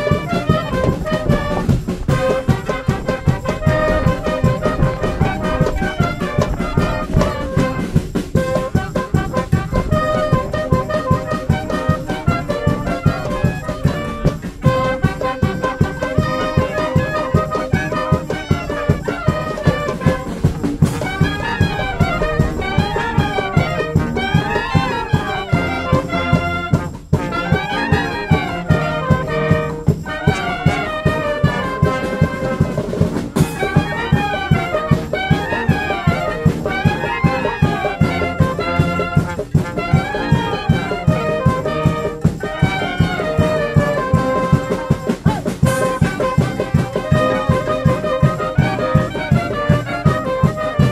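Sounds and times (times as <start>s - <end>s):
brass band playing upbeat tune: 0.0s - 50.9s.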